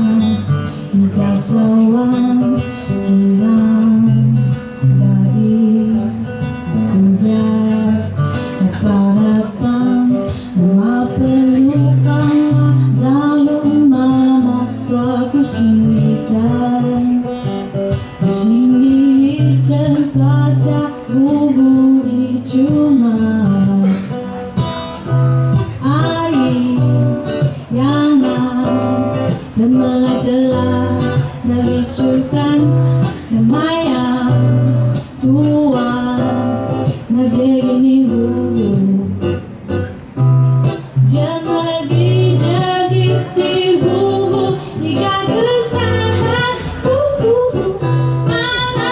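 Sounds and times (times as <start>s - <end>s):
woman singing: 0.0s - 24.6s, 25.5s - 39.4s, 40.7s - 48.9s
acoustic guitar: 0.0s - 48.9s.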